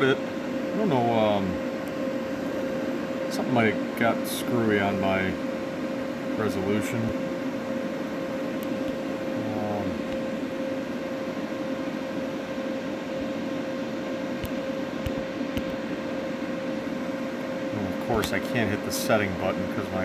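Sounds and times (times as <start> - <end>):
constant high whining tone: 0.0 - 20.0
machine hum: 0.0 - 20.0.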